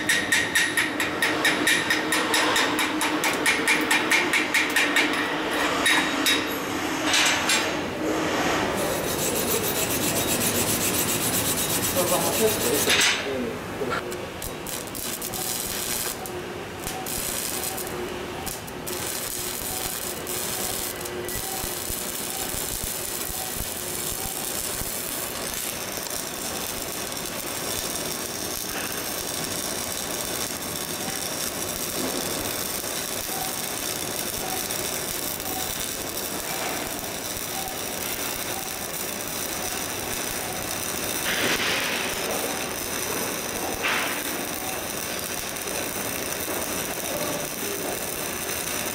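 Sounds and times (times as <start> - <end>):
welding arc crackling: 7.6 - 48.9.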